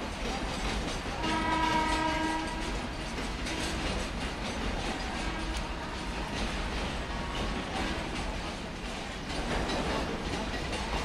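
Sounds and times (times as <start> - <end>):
freight train rumbling past: 0.0 - 11.0
wheels clattering over rail joints: 0.0 - 11.0.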